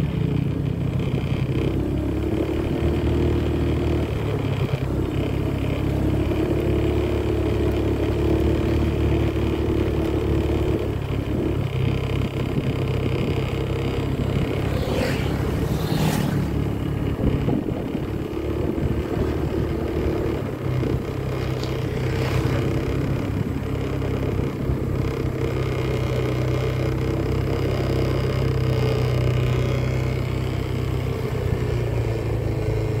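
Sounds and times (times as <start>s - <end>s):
road noise: 0.0s - 33.0s
vehicle engine running: 0.0s - 33.0s.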